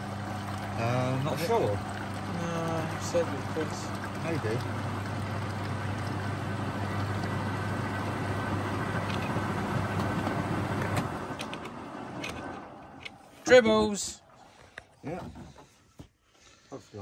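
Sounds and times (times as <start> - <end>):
washing machine water rushing: 0.0 - 15.8
low mains hum: 0.0 - 16.7.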